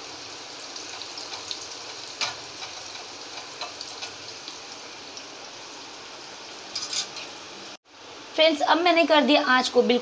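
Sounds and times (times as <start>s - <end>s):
fries sizzling in oil: 0.0s - 10.0s.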